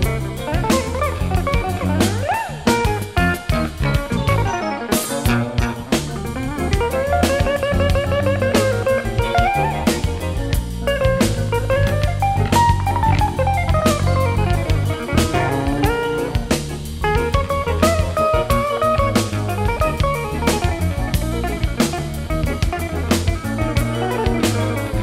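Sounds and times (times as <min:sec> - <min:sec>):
bending lead melody: 0:00.0 - 0:25.0
drum kit: 0:00.0 - 0:25.0
electric bass groove: 0:00.0 - 0:25.0
electric guitar: 0:00.0 - 0:25.0.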